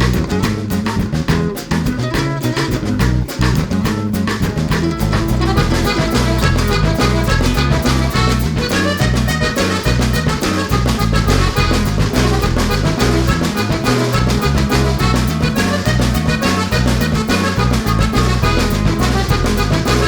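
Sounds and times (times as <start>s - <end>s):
upbeat swing instrumental music: 0.0s - 20.0s.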